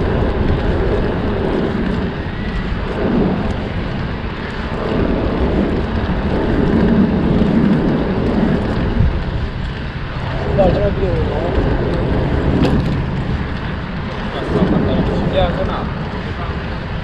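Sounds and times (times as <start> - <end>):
bike tyres rolling on pavement: 0.0 - 17.0
wind on microphone: 0.0 - 17.0.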